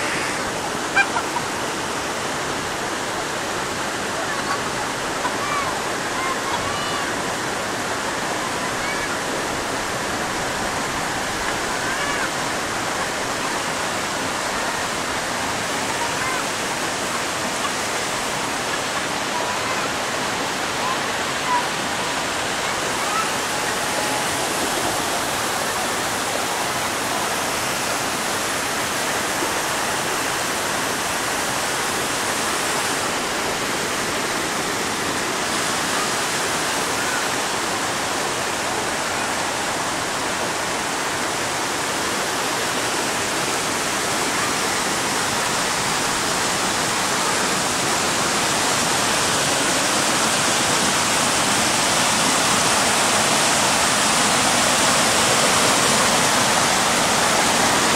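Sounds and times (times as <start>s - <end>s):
rainwater rushing: 0.0s - 57.9s.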